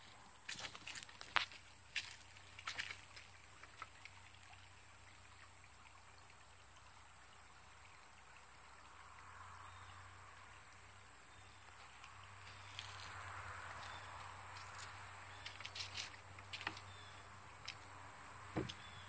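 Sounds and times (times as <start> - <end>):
creek trickling over stones: 0.0 - 19.0.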